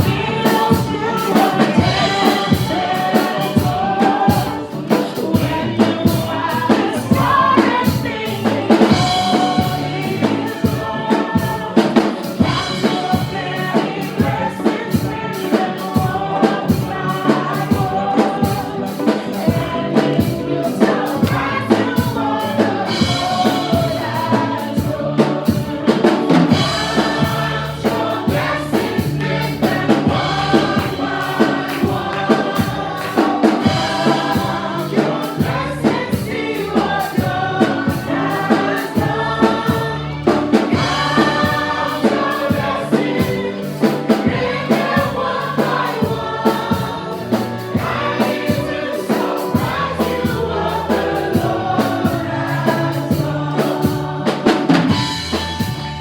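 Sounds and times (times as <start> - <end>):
drum kit and band: 0.0 - 56.0
group of singers: 0.0 - 56.0.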